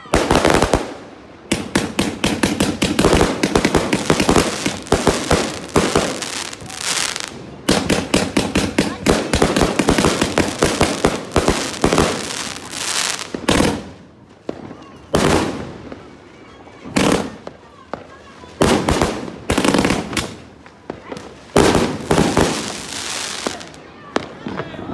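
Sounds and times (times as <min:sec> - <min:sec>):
fireworks firing rapid volleys: 0:00.0 - 0:16.0, 0:16.9 - 0:17.5, 0:18.6 - 0:24.6.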